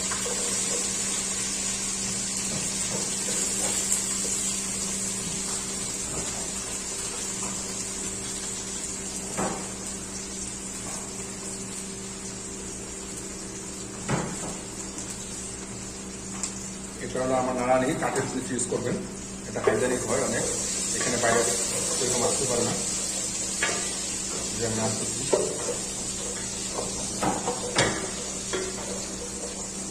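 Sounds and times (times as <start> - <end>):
garlic sizzling in oil: 0.0 - 29.9.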